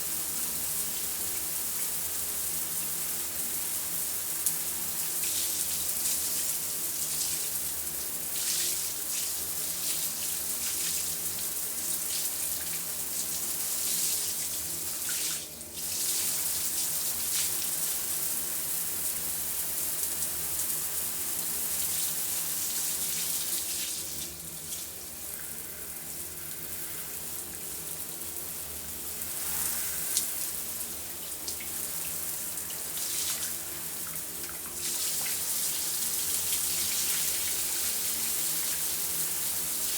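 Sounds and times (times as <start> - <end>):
shower water spraying: 3.9 - 18.8, 19.9 - 39.9.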